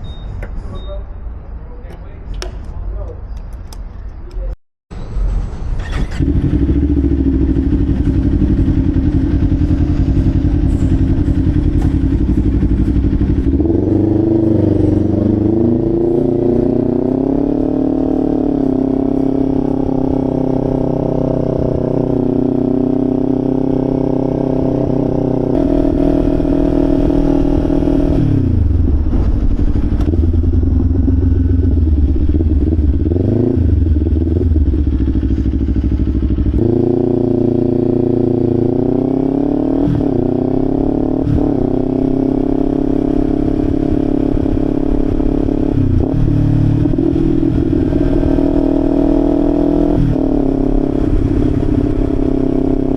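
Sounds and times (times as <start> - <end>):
motorcycle engine running: 5.9 - 52.9.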